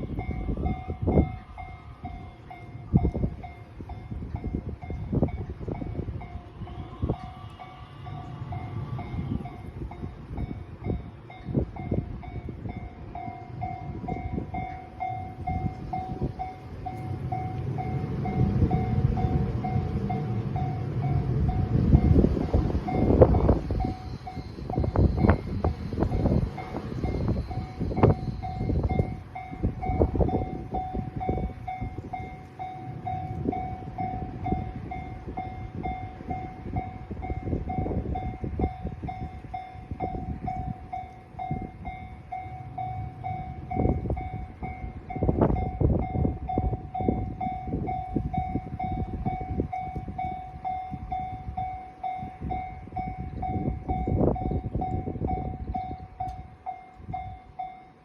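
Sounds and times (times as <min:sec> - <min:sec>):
diesel railcar rumble: 0:00.0 - 0:58.0
level-crossing warning bell ringing: 0:00.0 - 0:58.0.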